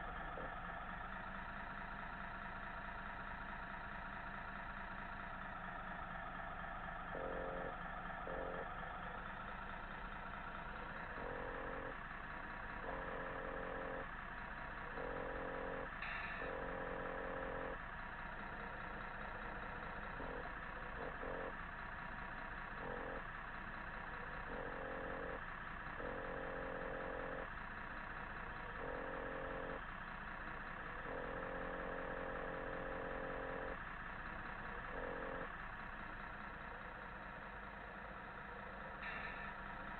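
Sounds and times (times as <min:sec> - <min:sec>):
diesel truck engine sound: 0:00.0 - 0:39.9.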